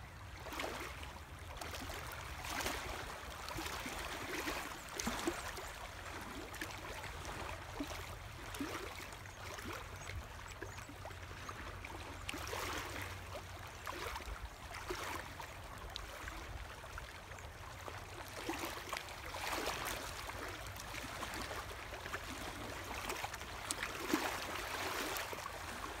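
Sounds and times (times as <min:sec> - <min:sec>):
lake waves lapping on rocky shore: 0:00.0 - 0:26.0.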